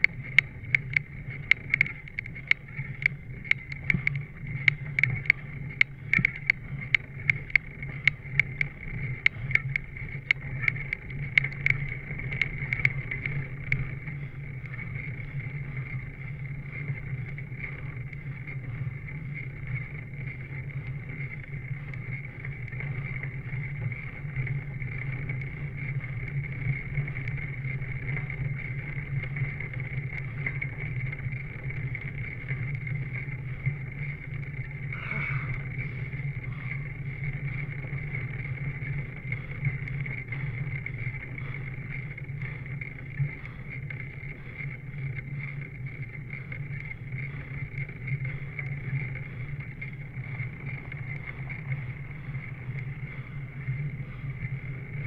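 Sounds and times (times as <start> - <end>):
bicycle riding on pavement: 0.0 - 55.0.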